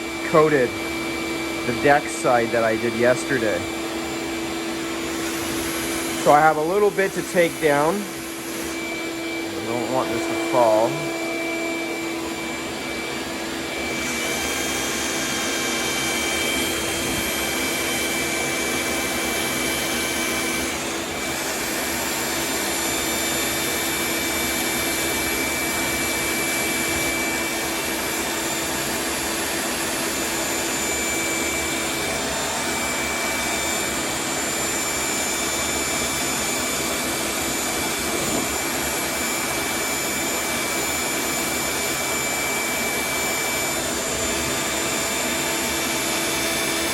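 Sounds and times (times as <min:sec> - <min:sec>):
vacuum running: 0:00.0 - 0:46.9.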